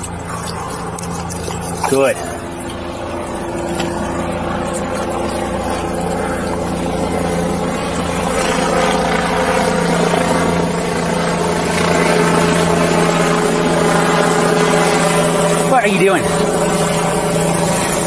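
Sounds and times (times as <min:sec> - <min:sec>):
helicopter droning: 0:00.0 - 0:18.0.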